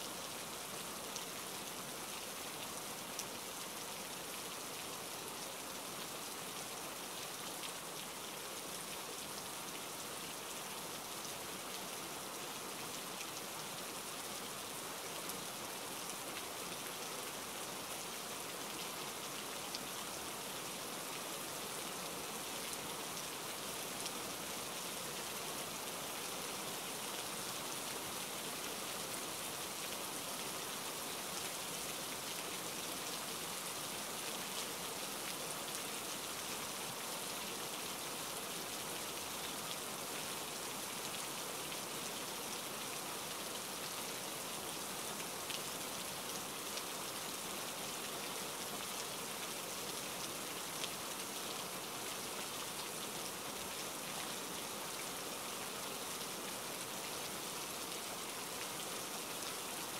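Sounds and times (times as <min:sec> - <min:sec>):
rain on hard surfaces: 0:00.0 - 0:59.9.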